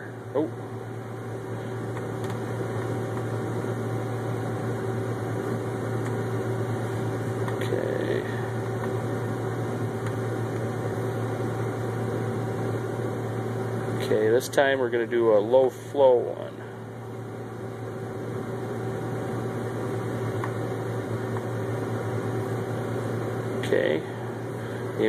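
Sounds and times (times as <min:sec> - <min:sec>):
combine harvester drone from cab: 0:00.0 - 0:25.0.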